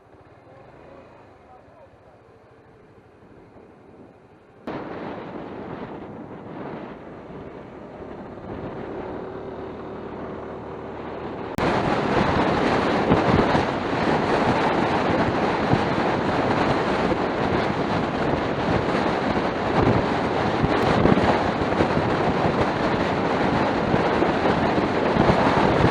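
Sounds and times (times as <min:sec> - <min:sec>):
scooter engine and road noise: 0:00.0 - 0:25.9
wind rushing over microphone: 0:03.3 - 0:25.9.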